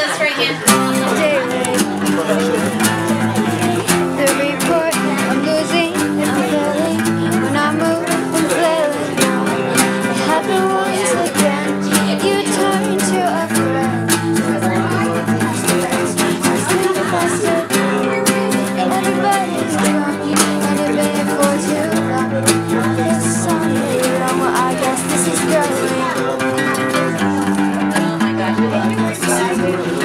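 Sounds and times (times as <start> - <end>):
acoustic guitars strumming: 0.0 - 30.0
person singing: 0.5 - 30.0.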